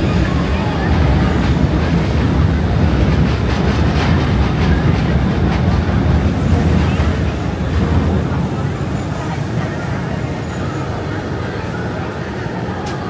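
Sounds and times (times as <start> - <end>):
rapid train wheel clatter: 0.0 - 13.0
train rumbling past: 0.0 - 13.0.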